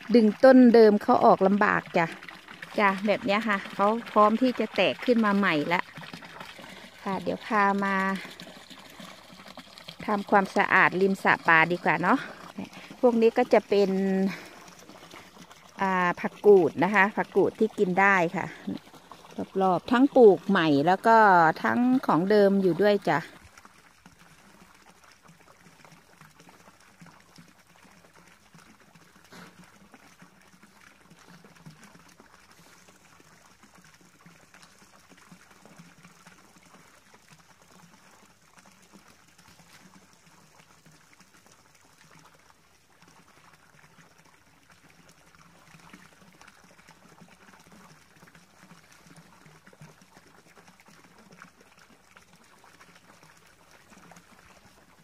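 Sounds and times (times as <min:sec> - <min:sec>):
water spout splashing into pond: 0:00.0 - 0:55.0.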